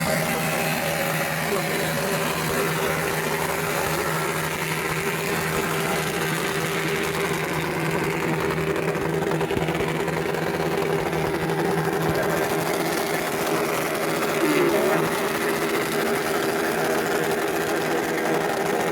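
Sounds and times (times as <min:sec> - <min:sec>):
small motorcycle engine running: 0:00.0 - 0:18.9.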